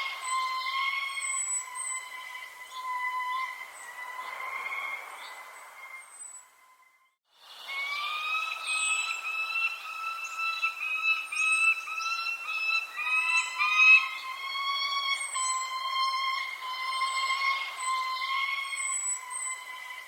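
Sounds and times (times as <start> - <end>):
shrill bird calls: 0.0 - 20.0.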